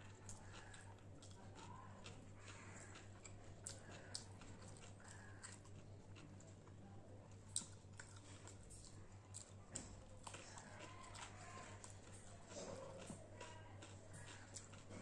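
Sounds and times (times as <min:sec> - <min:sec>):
fingers mixing rice on a plate: 0:00.0 - 0:06.7, 0:07.6 - 0:15.0
chewing: 0:00.0 - 0:15.0.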